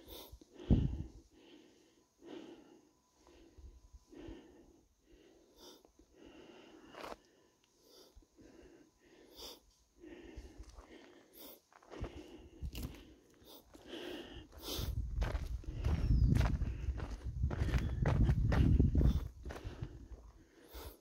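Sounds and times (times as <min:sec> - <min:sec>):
person breathing: 0:00.0 - 0:21.0.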